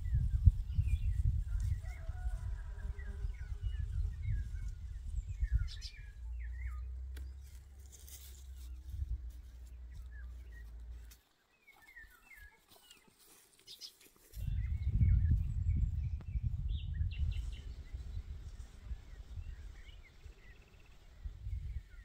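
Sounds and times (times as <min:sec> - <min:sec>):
wind rumble on microphone: 0:00.0 - 0:11.0, 0:14.3 - 0:22.0
small birds chirping: 0:00.0 - 0:22.0.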